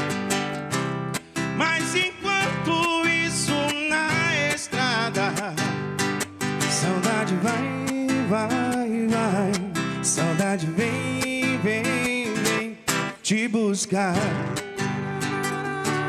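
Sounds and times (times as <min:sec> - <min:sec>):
acoustic guitar strummed: 0:00.0 - 0:16.0
man singing: 0:01.4 - 0:16.0.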